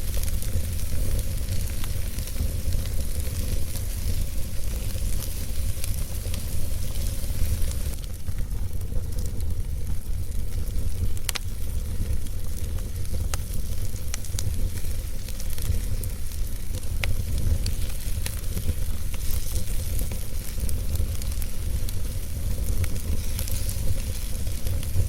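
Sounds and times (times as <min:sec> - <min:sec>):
fire rumble and hiss: 0:00.0 - 0:25.0
logs crackling and popping: 0:00.0 - 0:25.0.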